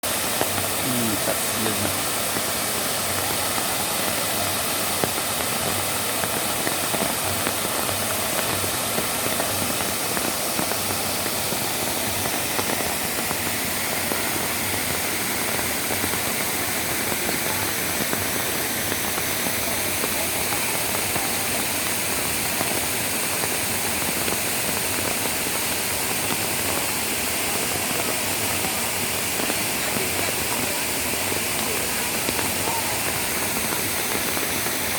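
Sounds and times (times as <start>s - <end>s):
rushing falling water: 0.0s - 34.9s.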